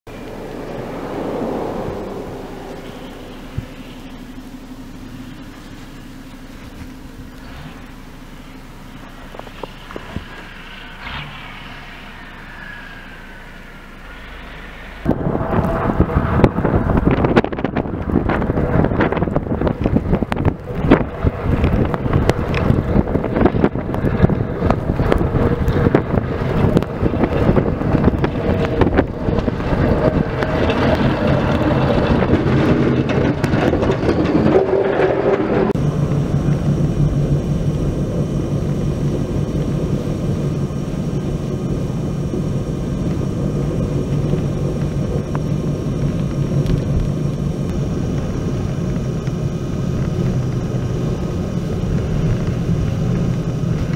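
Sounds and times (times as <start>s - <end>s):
steady vehicle drone: 0.0s - 53.9s
wind buffeting microphone: 0.1s - 7.4s, 13.0s - 53.9s
snowplow truck passing: 0.1s - 53.9s.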